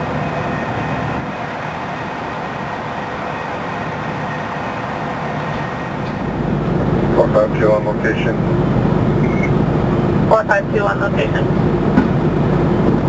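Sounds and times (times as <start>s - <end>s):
fire truck engine running: 0.0s - 13.0s.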